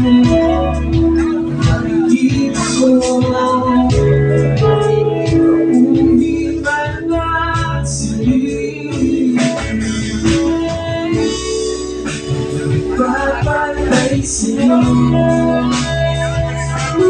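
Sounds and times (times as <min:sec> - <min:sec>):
live rock band playing: 0:00.0 - 0:17.0
person singing: 0:00.0 - 0:17.0.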